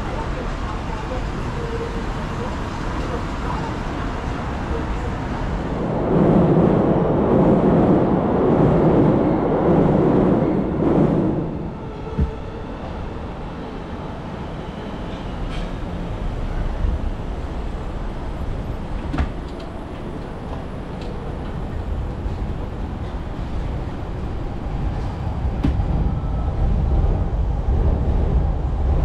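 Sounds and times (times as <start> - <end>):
street background noise: 0.0 - 29.0
train rumbling overhead: 0.0 - 29.0.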